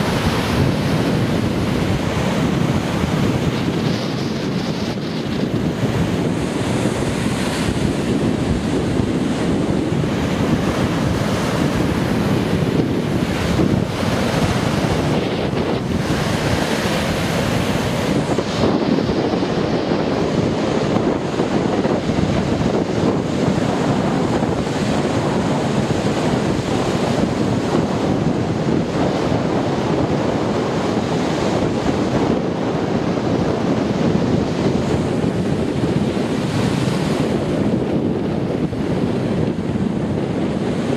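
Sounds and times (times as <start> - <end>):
surf breaking on a beach: 0.0 - 40.9
wind buffeting the microphone: 0.0 - 40.9.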